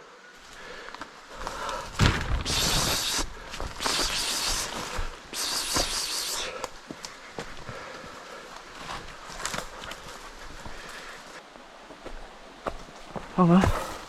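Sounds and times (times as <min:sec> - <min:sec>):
rustling through vegetation: 0:00.3 - 0:14.0.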